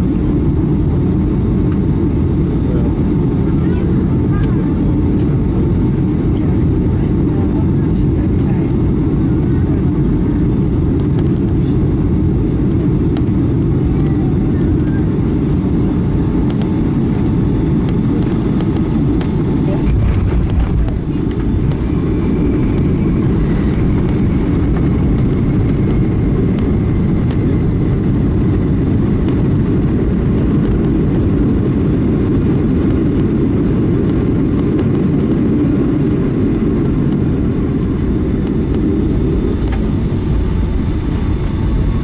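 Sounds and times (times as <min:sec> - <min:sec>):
engine and airflow noise in cabin: 0:00.0 - 0:42.0
wheels rumbling on runway: 0:00.0 - 0:42.0.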